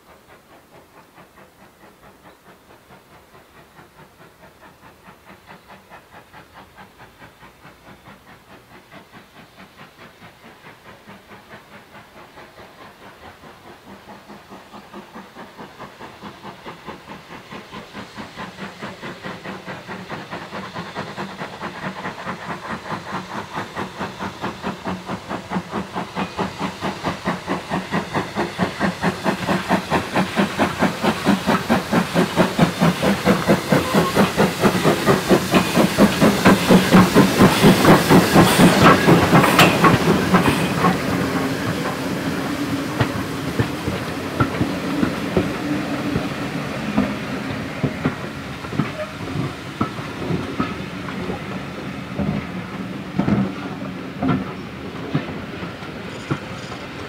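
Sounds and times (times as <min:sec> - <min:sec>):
steam locomotive exhaust beating: 0:00.0 - 0:57.0.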